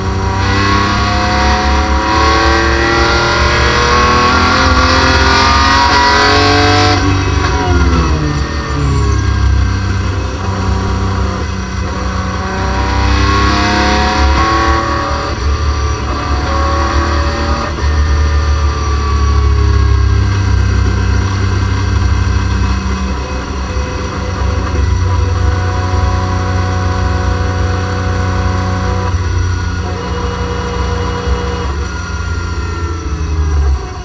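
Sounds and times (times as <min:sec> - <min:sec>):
race car engine from cockpit: 0:00.0 - 0:34.0.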